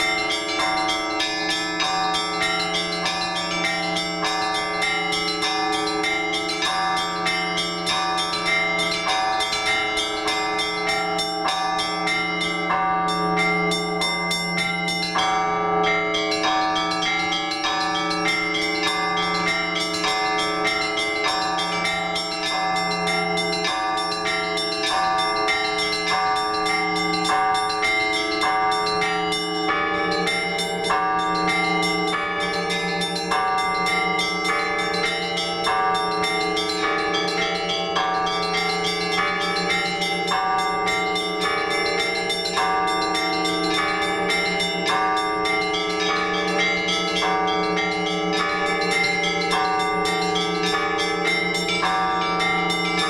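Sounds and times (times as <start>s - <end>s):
large bell hum: 0.0s - 53.0s
small church bells ringing: 0.0s - 53.0s.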